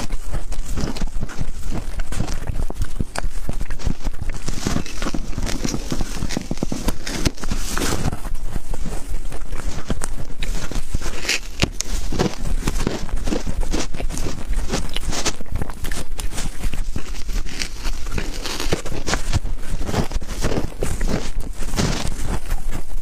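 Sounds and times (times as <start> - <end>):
chewing crunchy shaved ice: 0.0 - 22.8.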